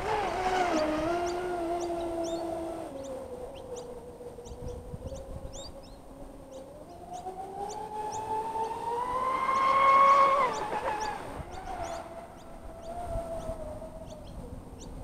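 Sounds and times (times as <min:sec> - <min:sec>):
electric motors whining: 0:00.0 - 0:15.0
small birds chirping: 0:00.3 - 0:15.0.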